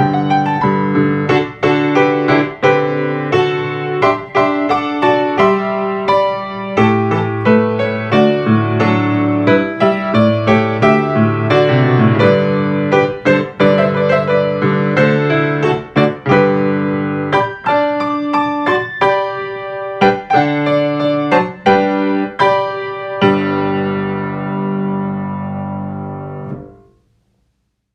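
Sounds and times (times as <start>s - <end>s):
solo piano playing: 0.0s - 27.2s.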